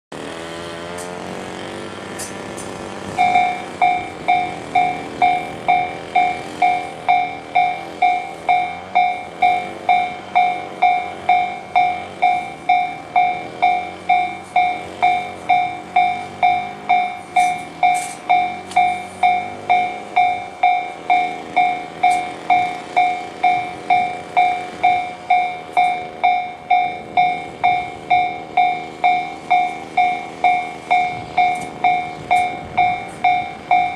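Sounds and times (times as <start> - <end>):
level-crossing electronic bell: 3.0 - 33.9.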